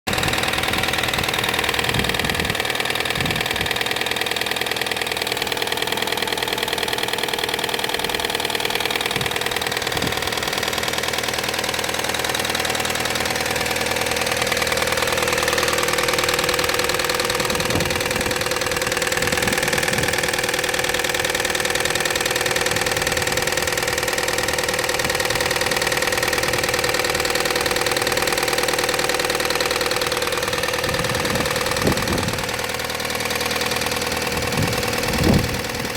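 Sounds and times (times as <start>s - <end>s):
car engine idling with ticking: 0.1s - 35.9s.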